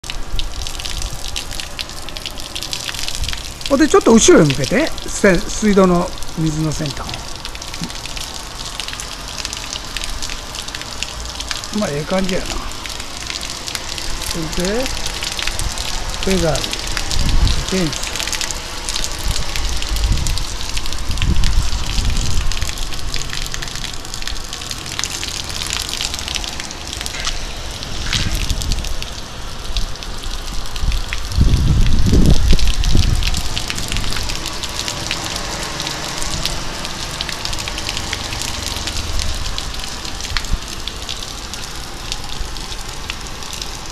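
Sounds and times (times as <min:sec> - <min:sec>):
hose water spraying on canopy: 0:00.1 - 0:43.9.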